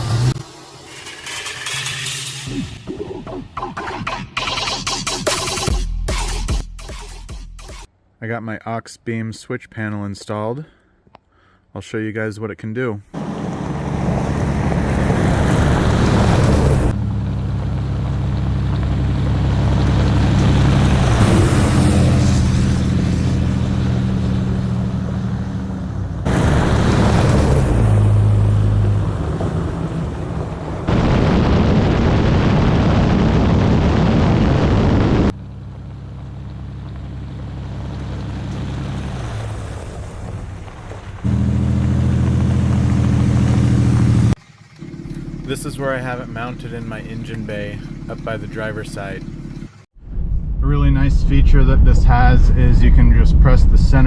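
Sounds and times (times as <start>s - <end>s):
road and wind noise: 0.0s - 2.9s, 13.1s - 54.0s
truck engine drone: 0.0s - 8.2s, 13.1s - 54.0s.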